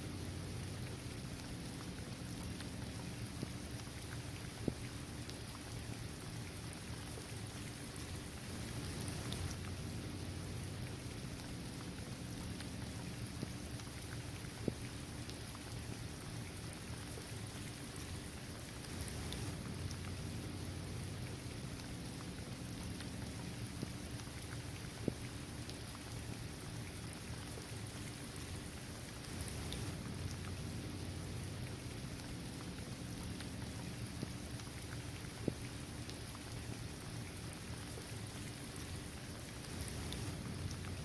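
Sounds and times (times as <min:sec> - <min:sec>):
rain falling on hard surface: 0:00.0 - 0:41.0.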